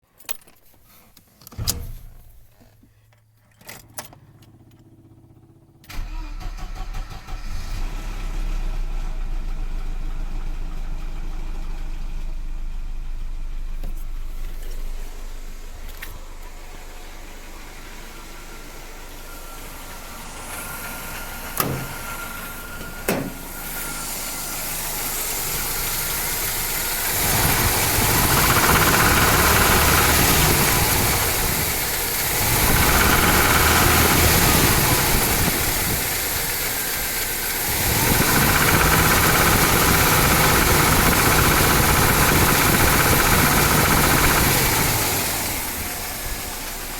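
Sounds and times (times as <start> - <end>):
car engine revving: 5.9 - 46.9.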